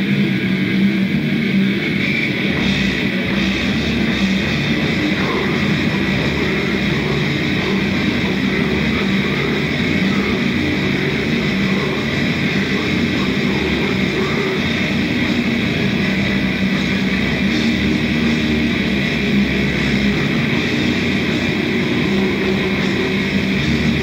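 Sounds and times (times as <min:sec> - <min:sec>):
black metal band playing: 0:00.0 - 0:24.0.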